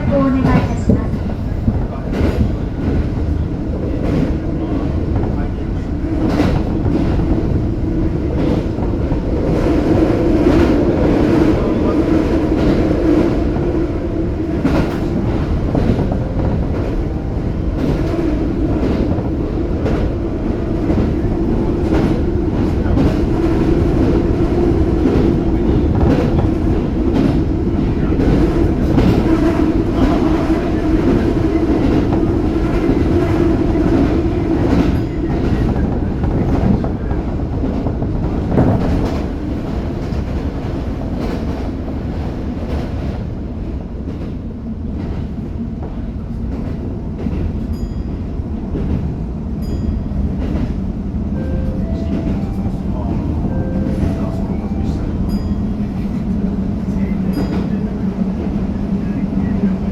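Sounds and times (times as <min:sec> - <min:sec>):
train rumble inside car: 0:00.0 - 0:59.9.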